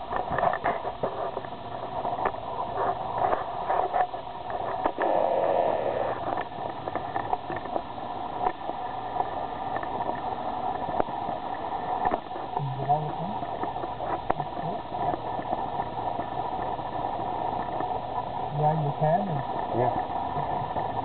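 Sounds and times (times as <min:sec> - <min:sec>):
engine drone: 0:00.0 - 0:21.0
wind noise: 0:00.0 - 0:21.0.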